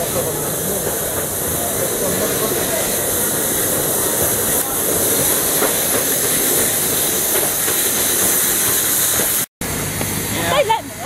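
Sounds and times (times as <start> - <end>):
steam locomotive blowing off steam: 0.0 - 10.5.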